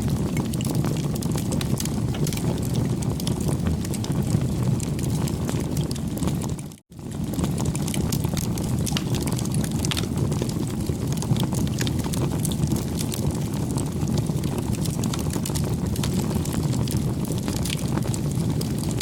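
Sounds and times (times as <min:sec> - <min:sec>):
burning wood crackling: 0:00.0 - 0:19.0
rush of flame: 0:00.0 - 0:19.0.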